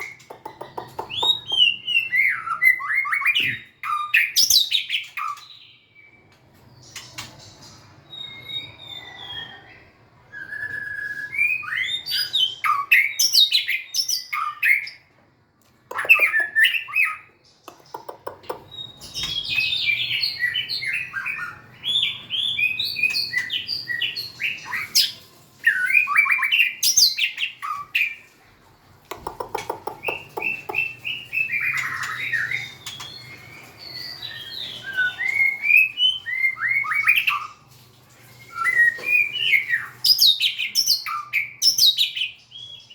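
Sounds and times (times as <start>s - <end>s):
bird singing whistles and chirps: 0.0s - 6.2s, 6.8s - 15.0s, 17.9s - 28.0s, 30.0s - 37.6s, 38.4s - 42.9s.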